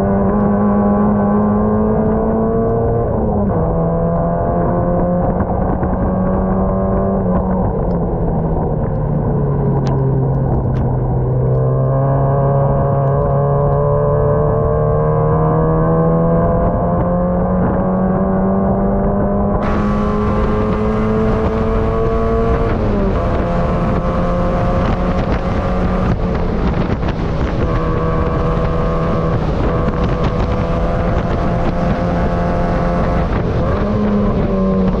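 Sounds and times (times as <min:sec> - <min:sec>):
race car engine accelerating: 0:00.0 - 0:08.2, 0:09.3 - 0:35.0.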